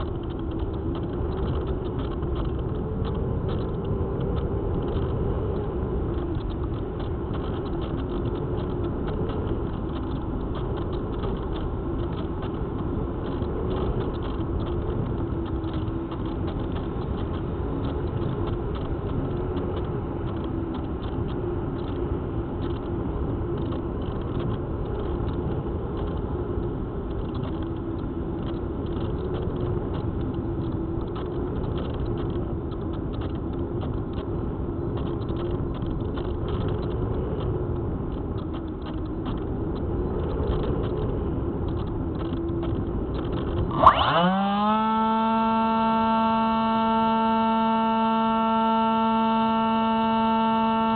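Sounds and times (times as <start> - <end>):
airflow rumble: 0.0 - 50.9
model plane motor and propeller: 0.0 - 50.9.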